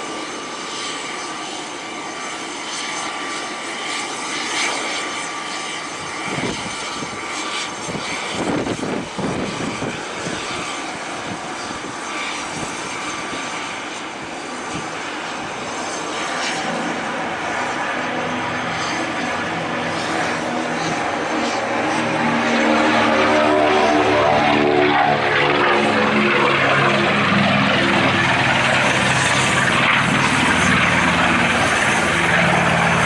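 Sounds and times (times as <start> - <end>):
aircraft radial engines roaring: 0.0 - 33.0.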